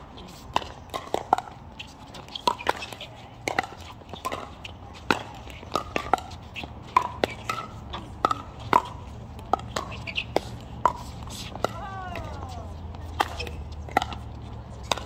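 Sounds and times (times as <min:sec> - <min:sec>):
paddles hitting plastic ball: 0:00.5 - 0:15.0.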